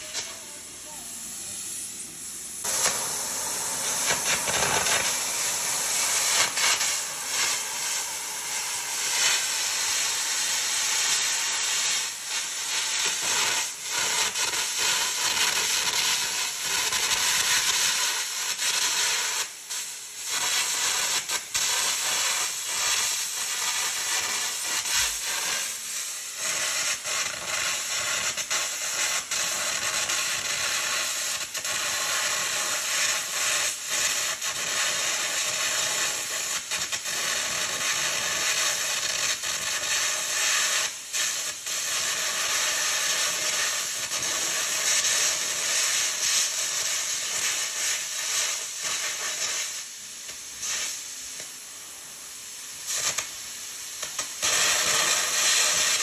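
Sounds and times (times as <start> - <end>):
loud steady hiss: 0.0 - 56.0.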